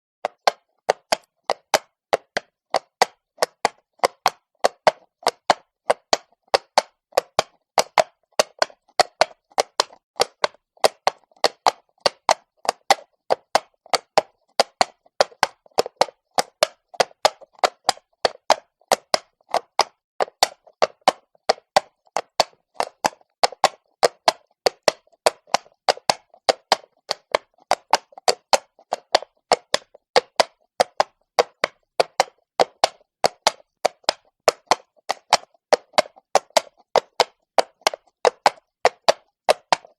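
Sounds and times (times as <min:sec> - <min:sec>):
horse hooves on stone: 0:00.2 - 0:39.9.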